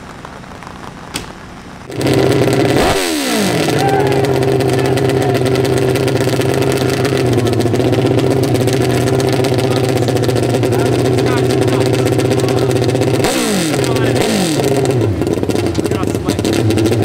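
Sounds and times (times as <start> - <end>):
motorcycle engine starting and idling: 0.0 - 17.0.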